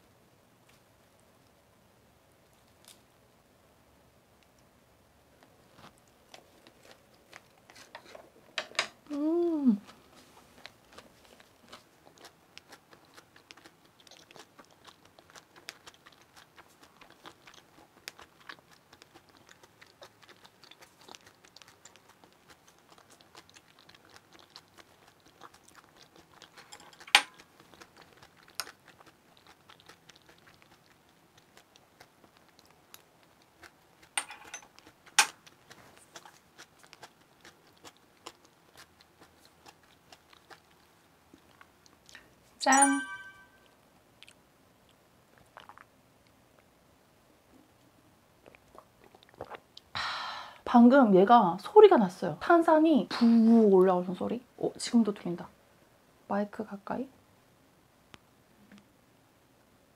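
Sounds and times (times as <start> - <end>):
chewing with soft crunching: 0.6 - 3.5, 4.3 - 42.6, 43.2 - 50.0.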